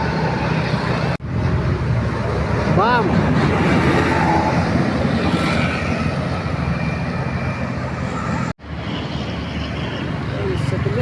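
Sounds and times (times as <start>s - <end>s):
tyre and road noise: 0.0s - 11.0s.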